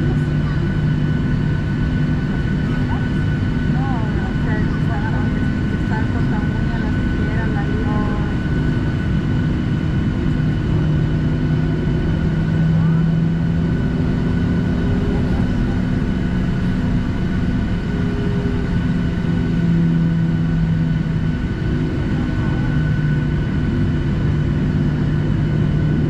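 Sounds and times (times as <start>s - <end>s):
jet engines droning: 0.0s - 26.0s.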